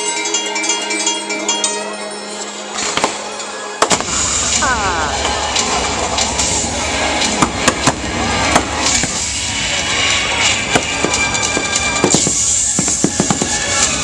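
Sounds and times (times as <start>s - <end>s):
background music: 0.0s - 14.0s
fireworks bangs: 2.8s - 14.0s.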